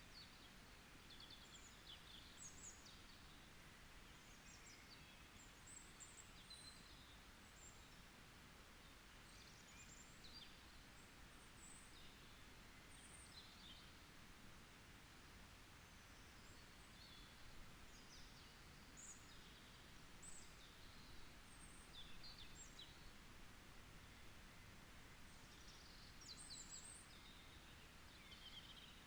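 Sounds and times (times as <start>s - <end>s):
low hiss: 0.0s - 29.0s.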